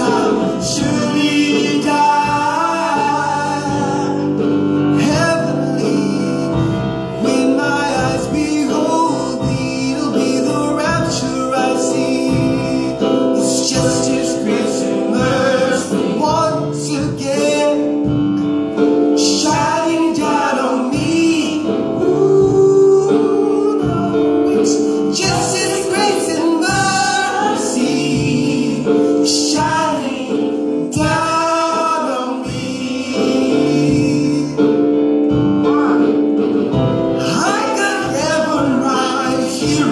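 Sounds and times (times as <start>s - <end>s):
gospel singing: 0.0s - 39.9s
instrumental backing: 0.0s - 39.9s.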